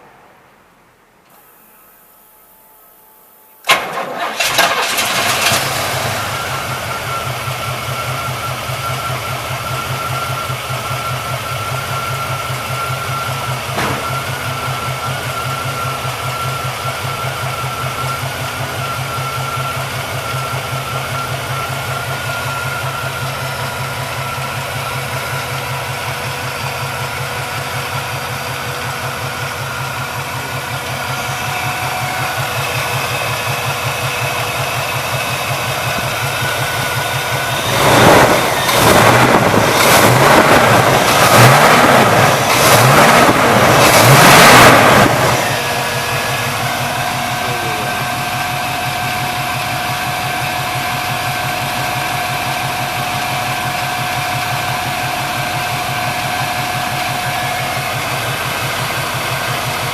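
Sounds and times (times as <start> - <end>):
engine idling and revving: 3.7 - 59.9.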